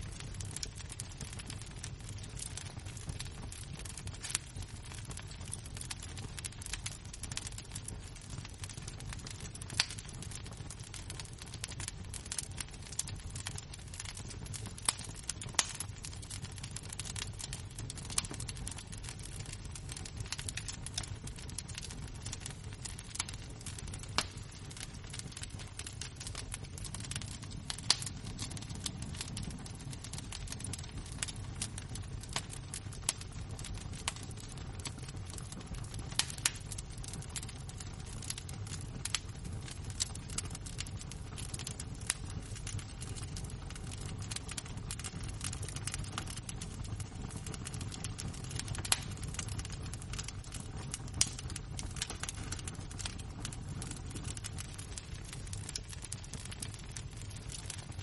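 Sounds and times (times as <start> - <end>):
wood fire embers crackling: 0.0 - 58.0.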